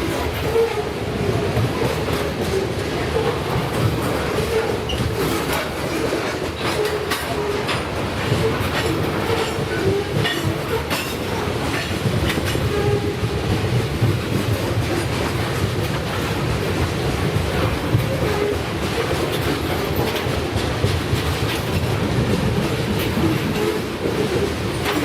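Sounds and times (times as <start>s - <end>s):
train wheels rumbling on rail: 0.0s - 25.0s
wheels clicking over rail joints: 0.0s - 25.0s.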